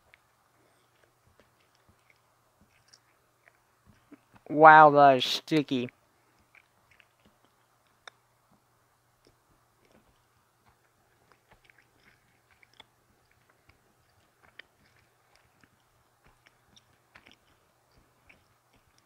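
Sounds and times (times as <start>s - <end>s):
person chewing sticky candy: 0.0s - 4.5s, 5.9s - 19.0s.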